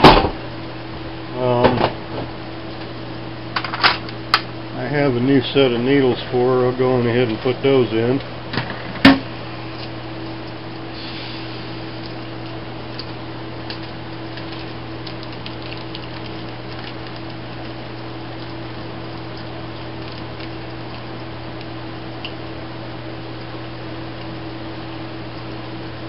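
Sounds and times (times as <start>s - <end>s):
machine hum with hiss: 0.0s - 26.0s.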